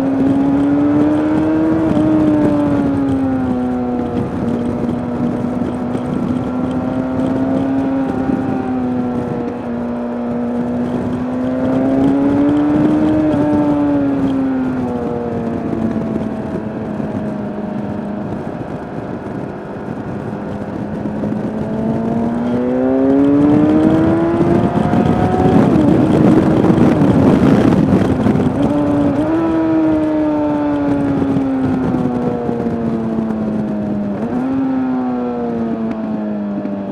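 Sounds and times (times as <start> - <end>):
motorcycle engine revving: 0.0 - 36.9
rushing wind noise: 0.0 - 36.9.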